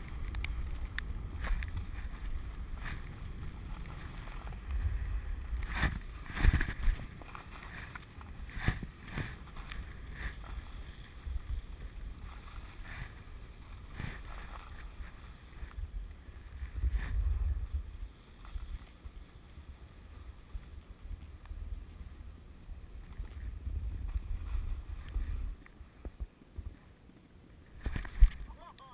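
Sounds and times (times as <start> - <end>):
wind on microphone: 0.0 - 19.2, 19.8 - 26.8
skis scraping over snow: 0.0 - 28.7.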